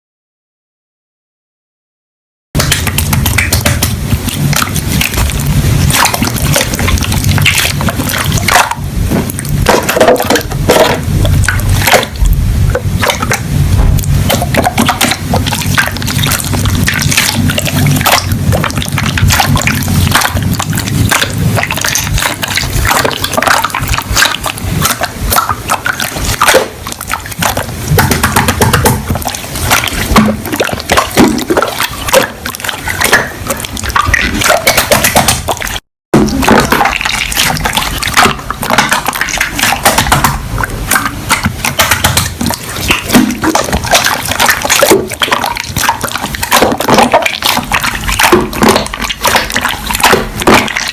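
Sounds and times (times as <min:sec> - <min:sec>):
slime squelching by hand: 0:02.6 - 0:50.9.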